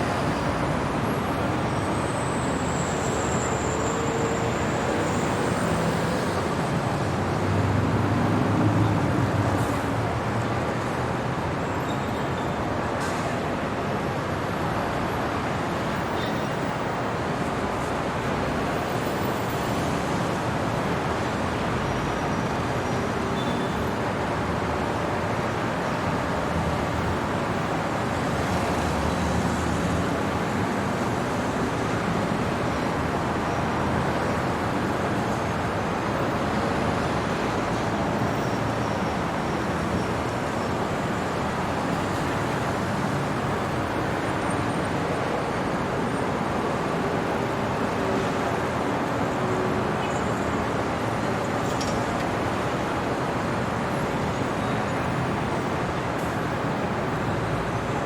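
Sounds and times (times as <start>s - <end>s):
city traffic noise: 0.0s - 58.0s.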